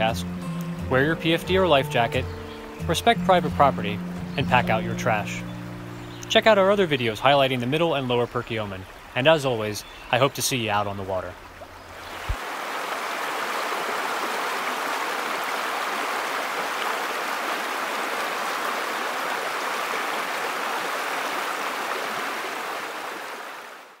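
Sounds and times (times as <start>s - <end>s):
creek water rushing over rapids: 0.0s - 24.0s.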